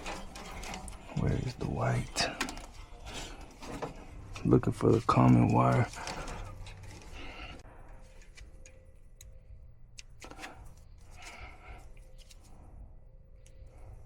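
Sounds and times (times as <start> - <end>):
wires and connectors clicking: 0.0 - 12.6.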